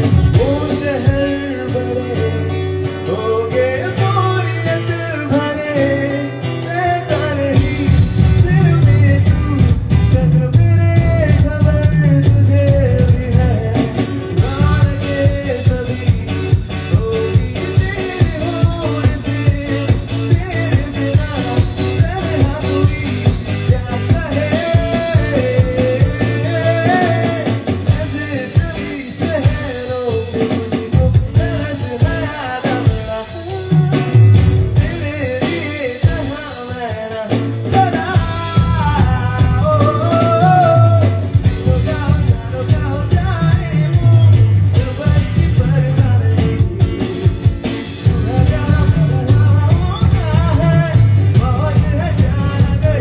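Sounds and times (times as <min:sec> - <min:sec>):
electronic percussion drum beat: 0:00.0 - 0:02.4, 0:04.0 - 0:53.0
man singing into a microphone: 0:00.0 - 0:53.0.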